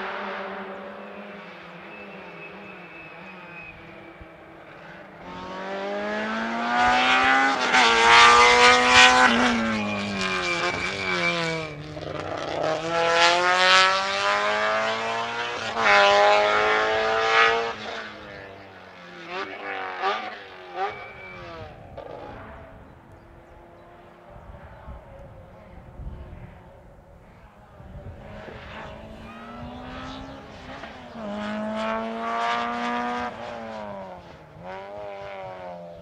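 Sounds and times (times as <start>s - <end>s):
rally car engine shifting gears: 0.0s - 24.8s, 28.1s - 36.0s.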